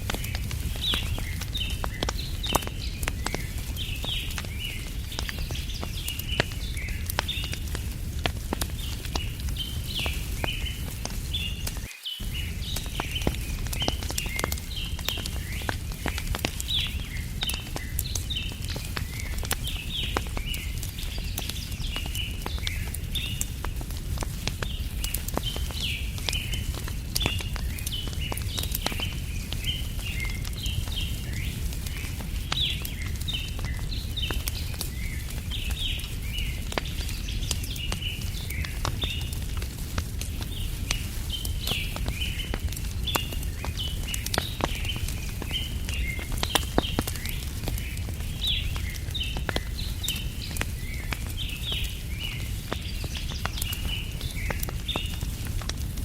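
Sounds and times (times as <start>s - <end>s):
campfire crackling and popping: 0.0s - 56.0s
small birds chirping: 0.0s - 56.0s.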